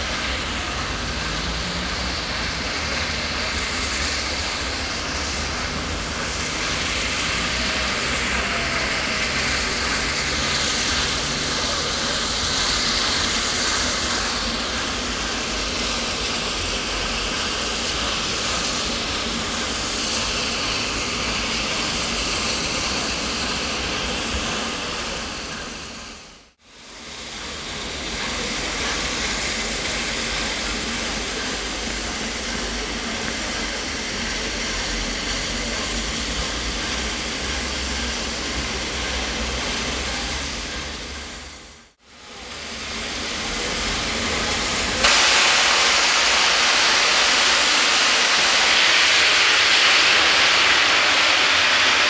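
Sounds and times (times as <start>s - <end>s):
steam locomotive hissing steam: 0.0s - 52.0s.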